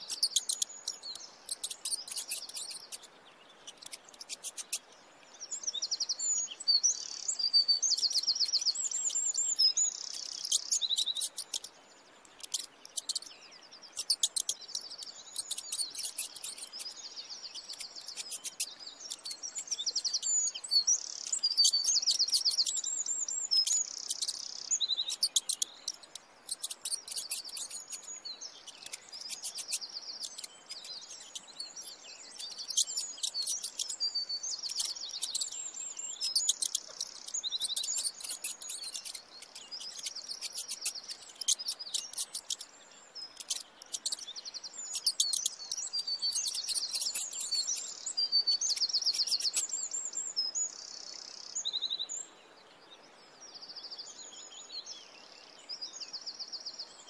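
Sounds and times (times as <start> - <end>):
small songbirds chirping and trilling: 0.0 - 57.0.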